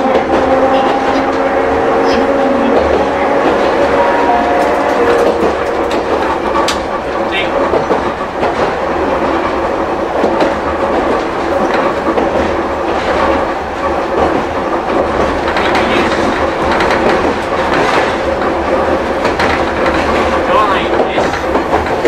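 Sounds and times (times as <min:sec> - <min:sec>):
tram motor hum: 0:00.0 - 0:22.0
wheels clicking over rail joints: 0:00.0 - 0:22.0.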